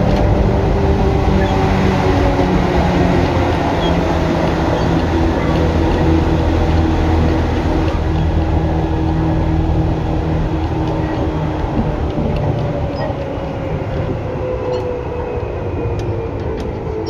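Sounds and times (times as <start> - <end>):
electric train motor hum: 0.0 - 17.0
wheels rumbling on rail: 0.0 - 17.0.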